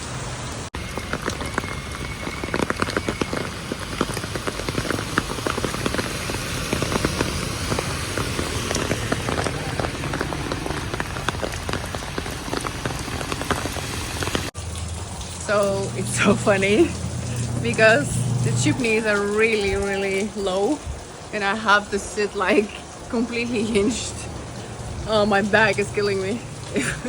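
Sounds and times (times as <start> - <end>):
heavy rain hissing: 0.0 - 27.0
raindrops striking close by: 0.0 - 27.0.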